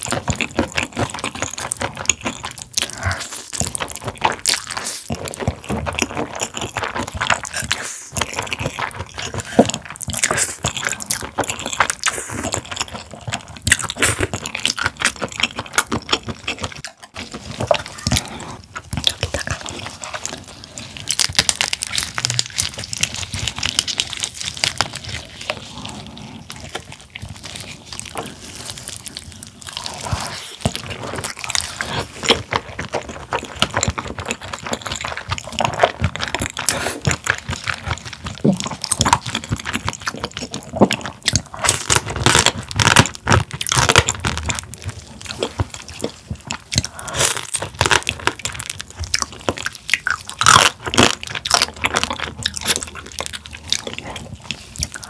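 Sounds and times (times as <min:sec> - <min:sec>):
crunching and cracking while chewing: 0:00.0 - 0:55.0.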